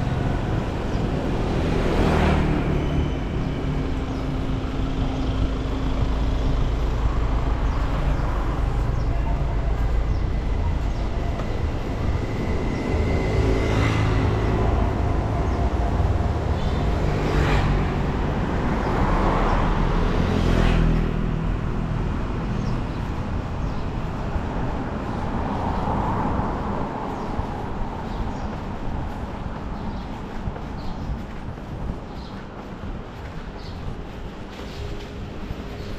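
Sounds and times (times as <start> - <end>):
traffic engine hum: 0.0 - 35.9
vehicles passing close by: 0.0 - 35.9.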